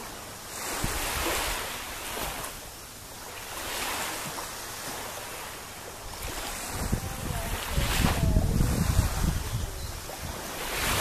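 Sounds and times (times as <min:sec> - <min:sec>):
wind on microphone: 0:00.0 - 0:02.6, 0:03.5 - 0:11.0
small waves washing on beach: 0:00.0 - 0:11.0.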